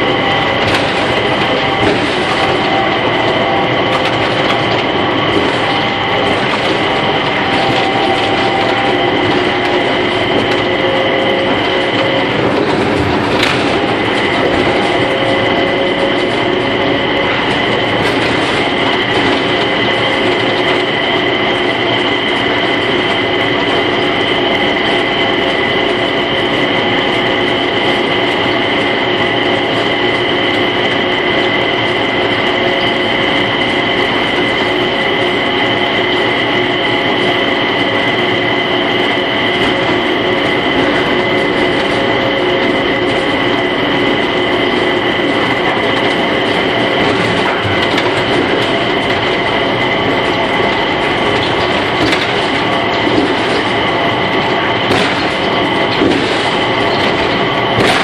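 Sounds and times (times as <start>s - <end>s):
steady high whine: 0.0s - 58.0s
train rumble: 0.0s - 58.0s.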